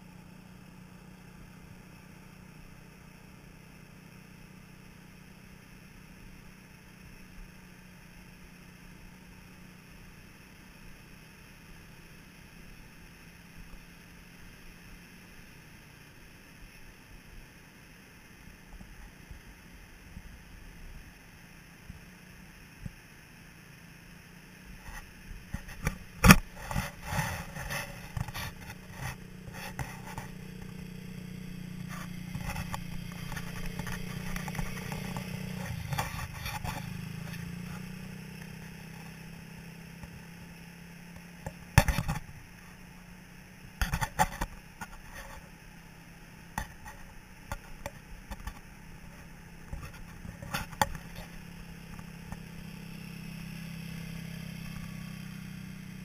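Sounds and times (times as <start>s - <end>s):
small vehicle engine running: 0.0s - 56.0s.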